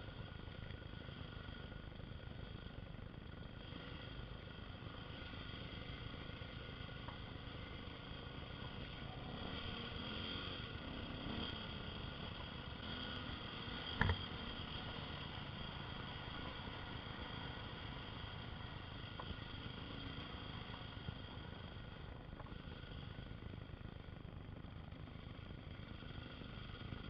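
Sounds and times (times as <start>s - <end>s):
motorcycle engine: 0.0s - 27.0s.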